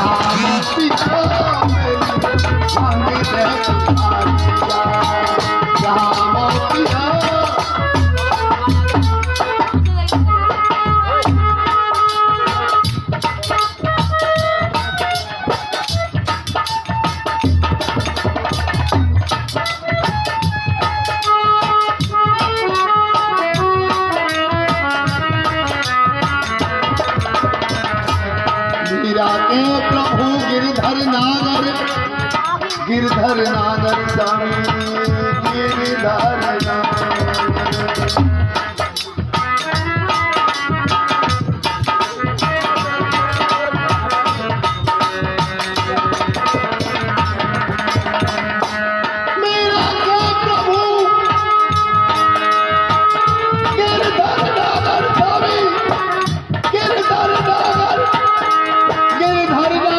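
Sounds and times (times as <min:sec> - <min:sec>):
busy drum rhythm: 0:00.0 - 0:59.9.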